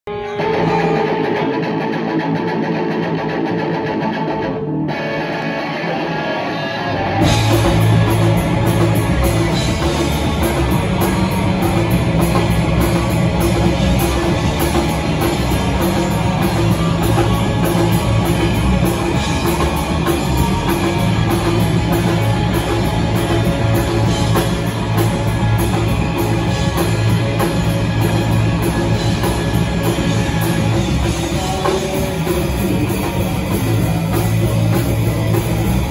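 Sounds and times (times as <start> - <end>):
rock band playing: 0.1 - 35.9.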